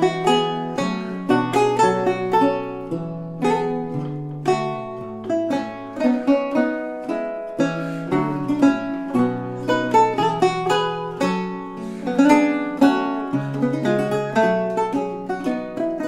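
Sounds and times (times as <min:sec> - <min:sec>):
solo lute playing: 0:00.0 - 0:16.0.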